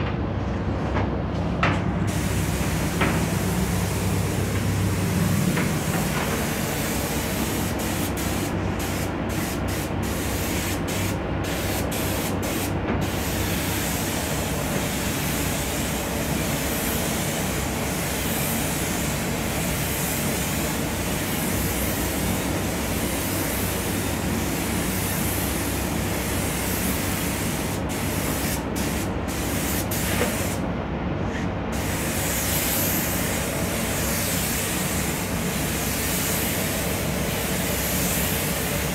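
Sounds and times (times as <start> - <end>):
paint spray gun hissing: 2.1 - 30.6, 31.7 - 38.9.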